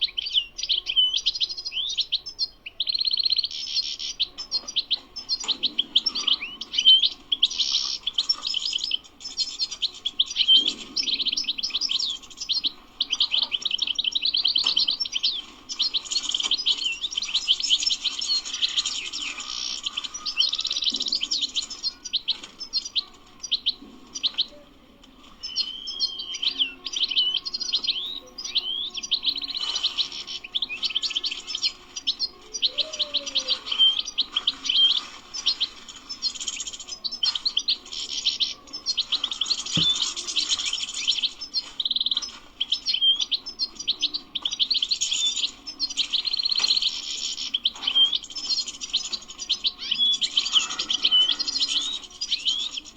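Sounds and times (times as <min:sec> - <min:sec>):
goldfinch twittering and trilling: 0:00.0 - 0:24.6, 0:25.3 - 0:52.9.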